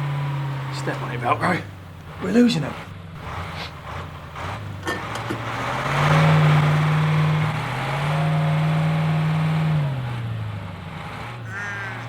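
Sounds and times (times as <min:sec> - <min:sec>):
jeep engine revving: 0:00.0 - 0:12.0.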